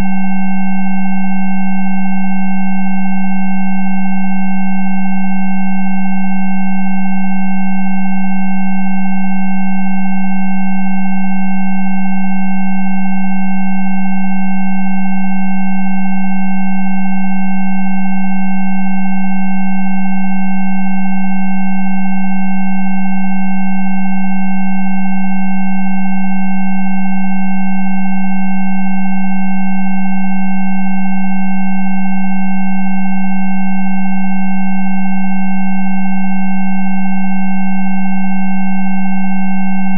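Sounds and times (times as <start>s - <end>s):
faint high sine tones: 0.0s - 39.9s
loud low sine tone: 0.0s - 39.9s.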